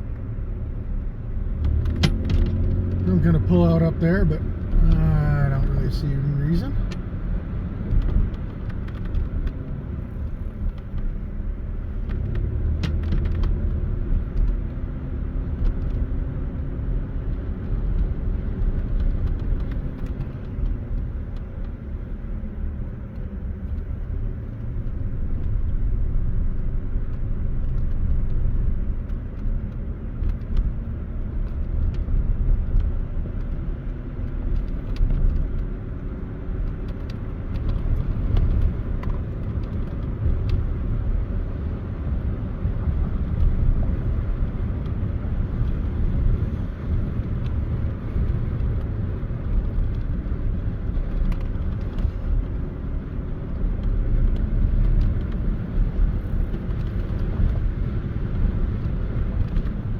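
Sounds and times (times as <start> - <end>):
car engine hum: 0.0 - 59.9
road noise inside car: 0.0 - 59.9.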